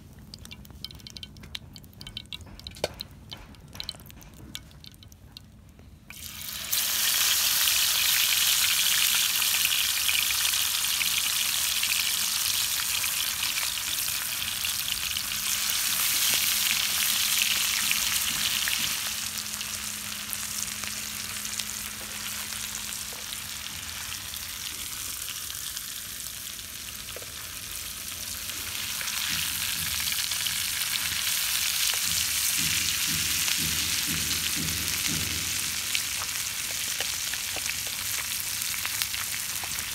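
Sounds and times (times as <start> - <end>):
fish sizzling in hot oil: 6.1 - 39.9.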